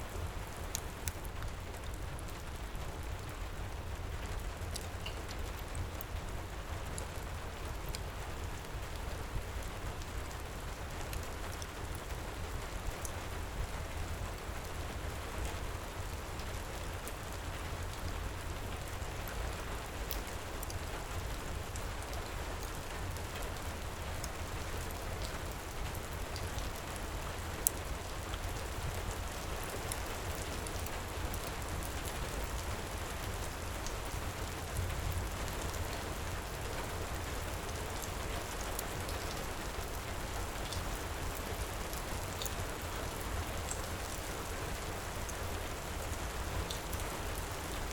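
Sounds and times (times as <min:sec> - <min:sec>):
heavy rain: 0:00.1 - 0:47.9.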